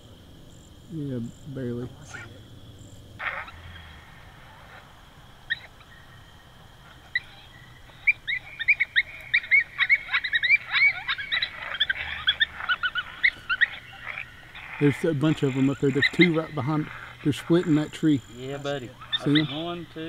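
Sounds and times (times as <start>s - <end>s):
coyotes yipping and howling: 0.0s - 20.0s.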